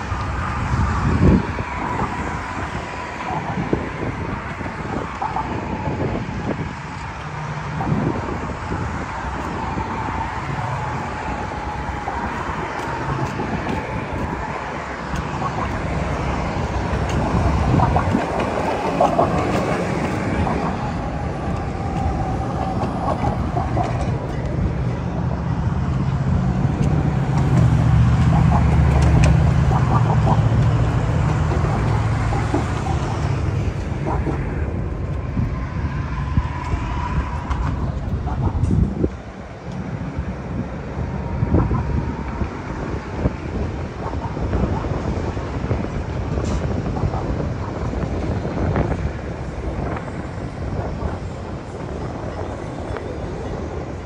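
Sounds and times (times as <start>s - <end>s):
cars driving past: 0.0s - 54.0s
heavy vehicle low rumble: 0.0s - 54.0s.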